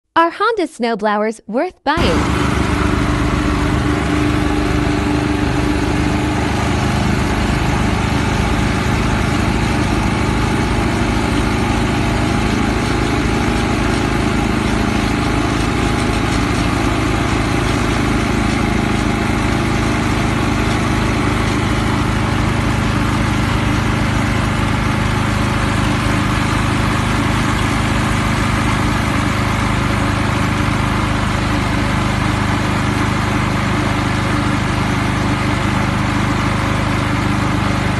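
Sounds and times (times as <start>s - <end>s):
snowblower engine running: 2.0s - 37.9s.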